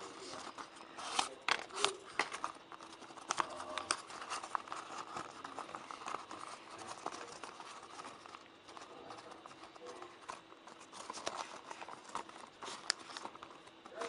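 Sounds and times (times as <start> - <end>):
paper crinkling and creasing: 0.0 - 14.0.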